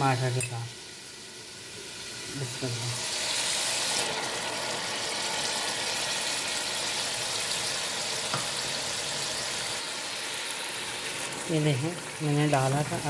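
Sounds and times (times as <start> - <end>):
masala sizzling in hot oil: 0.0 - 13.0.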